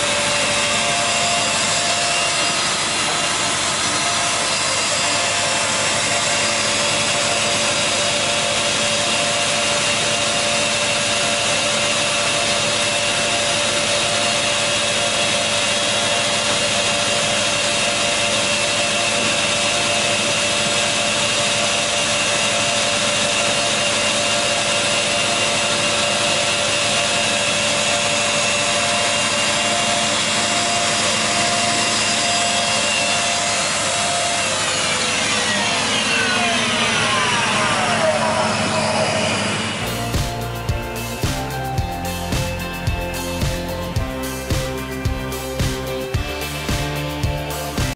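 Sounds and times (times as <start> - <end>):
planer running steadily: 0.0 - 47.9.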